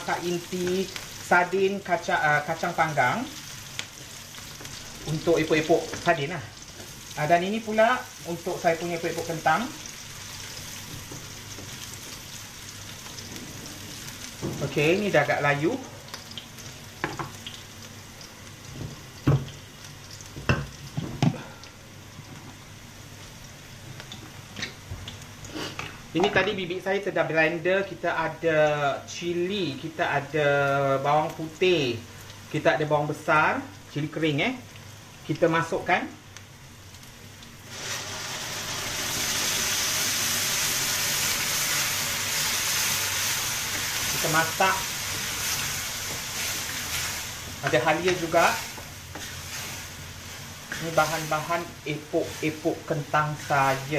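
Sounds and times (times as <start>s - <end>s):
vegetables sizzling in hot oil: 0.0s - 53.9s.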